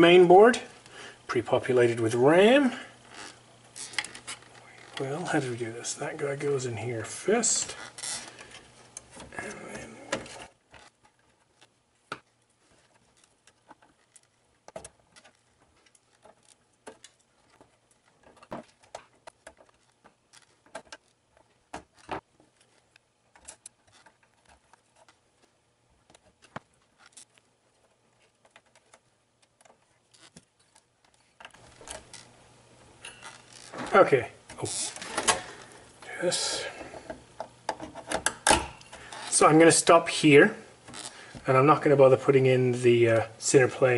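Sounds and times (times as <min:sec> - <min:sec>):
faint steady hum: 0:00.0 - 0:43.9
rustling handling noise: 0:00.0 - 0:43.9.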